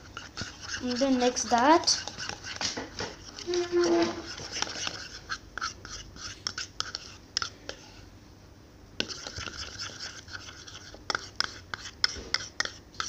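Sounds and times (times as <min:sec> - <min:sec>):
spoon scraping ceramic bowl: 0:00.0 - 0:07.8, 0:09.0 - 0:13.0.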